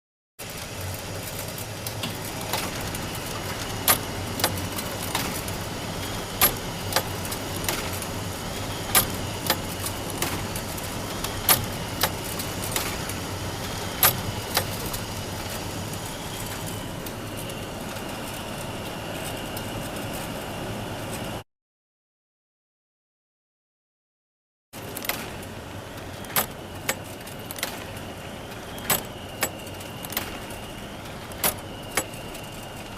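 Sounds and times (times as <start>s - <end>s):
photocopier whirring hum: 0.4s - 21.4s, 24.8s - 32.9s
faint high whine: 0.9s - 21.4s, 24.8s - 32.9s.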